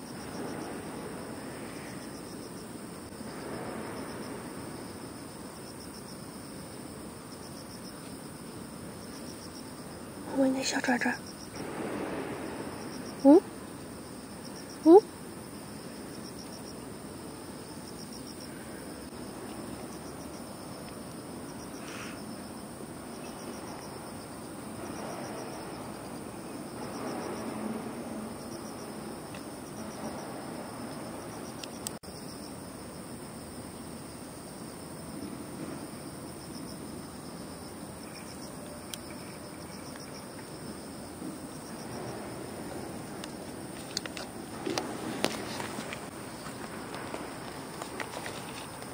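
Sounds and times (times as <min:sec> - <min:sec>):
insects trilling: 0:00.0 - 0:48.9.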